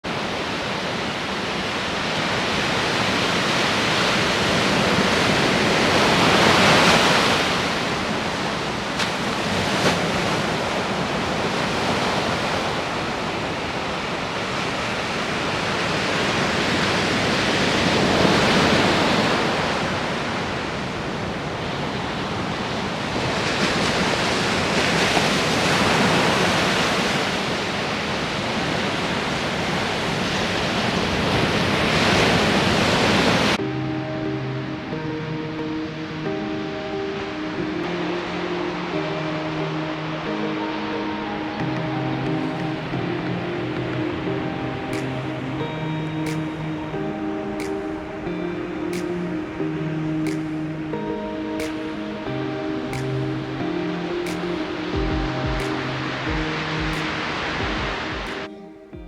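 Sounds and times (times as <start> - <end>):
ocean waves washing in: 0.0 - 58.7.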